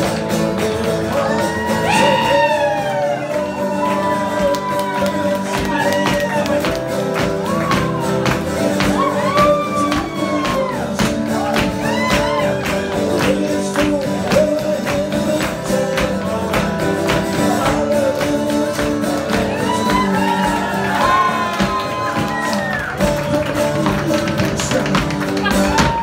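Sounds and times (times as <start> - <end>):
crowd clapping along: 0.0 - 26.0
lively dance music: 0.0 - 26.0.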